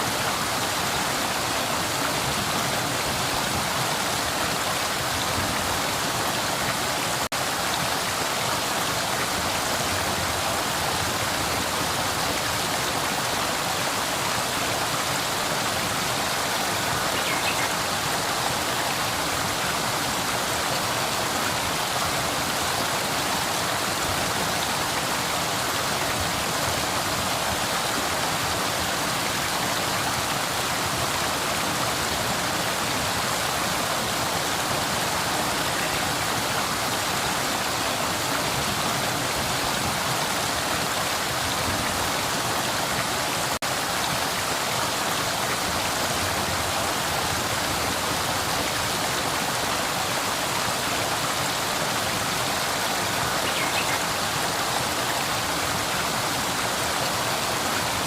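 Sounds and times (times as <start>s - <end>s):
river water rushing and burbling: 0.0s - 58.0s.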